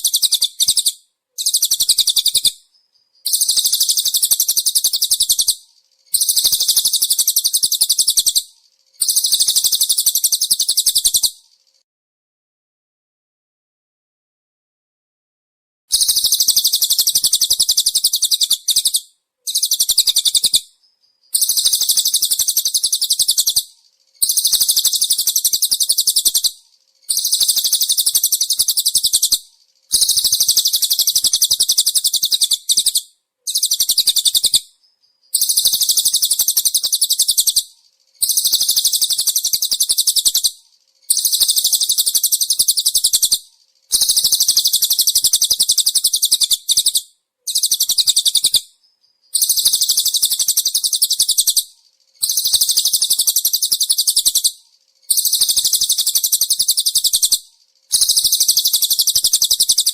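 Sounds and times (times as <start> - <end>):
songbird high-pitched trill: 0.0 - 11.8, 15.9 - 59.9.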